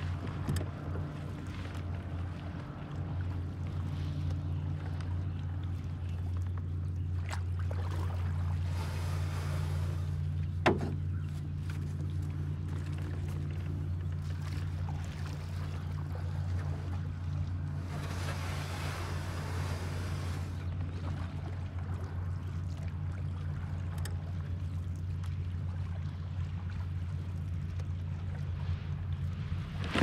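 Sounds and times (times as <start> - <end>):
low hum of kayak drive: 0.0 - 30.0.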